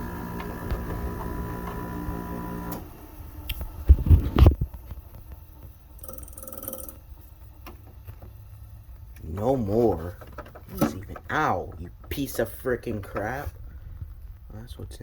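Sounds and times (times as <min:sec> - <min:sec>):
dehumidifier humming: 0:00.0 - 0:15.0.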